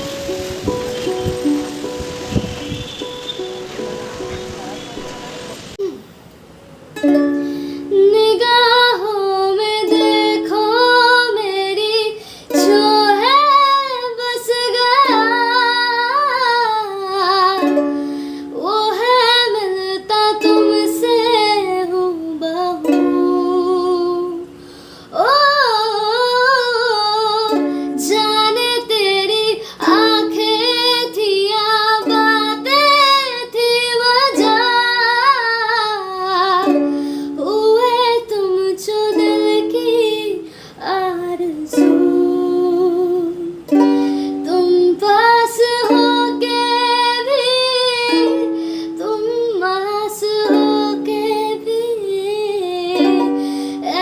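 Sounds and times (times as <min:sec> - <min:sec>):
ukulele: 0:00.0 - 0:54.0
woman singing a slow song: 0:07.2 - 0:54.0.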